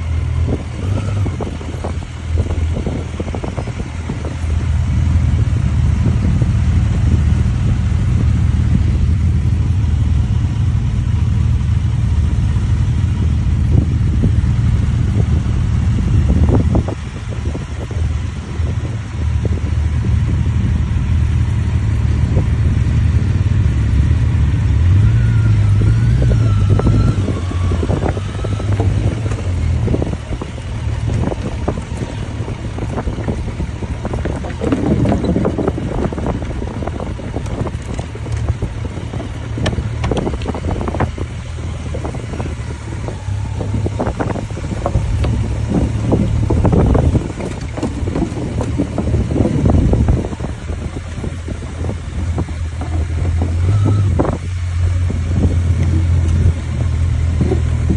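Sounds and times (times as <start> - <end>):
motorcycle engine hum: 0.0 - 57.9
wind buffeting on microphone: 0.0 - 57.9.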